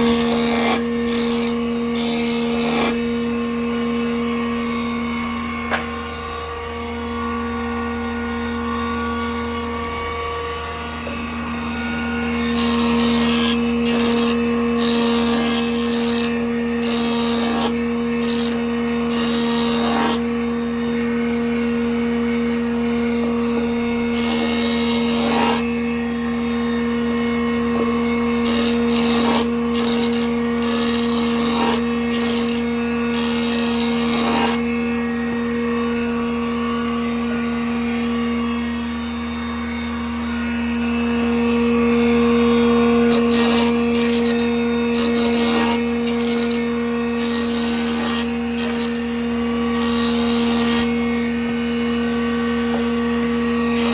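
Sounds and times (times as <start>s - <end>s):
band saw cutting wood: 0.0s - 53.9s.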